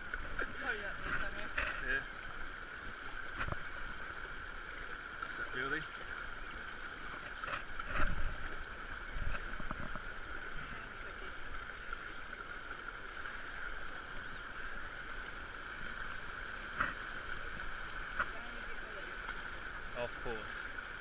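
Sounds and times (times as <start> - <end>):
stream running over stones: 0.0 - 21.0.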